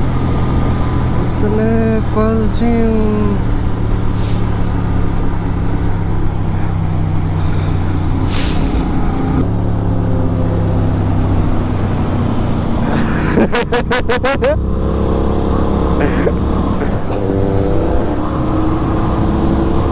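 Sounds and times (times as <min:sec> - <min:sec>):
motorcycle engine cruising: 0:00.0 - 0:19.9
road noise: 0:00.0 - 0:19.9.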